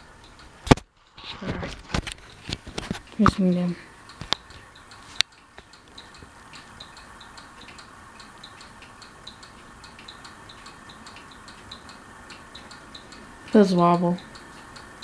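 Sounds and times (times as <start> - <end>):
light ticking of fan: 0.0 - 0.9, 2.0 - 15.0
ceiling fan whooshing: 0.0 - 15.0.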